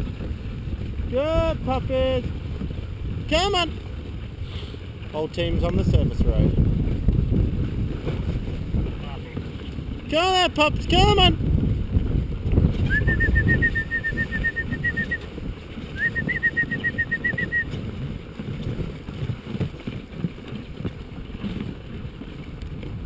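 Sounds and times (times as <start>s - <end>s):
sled runners rumbling on snow: 0.0s - 23.0s.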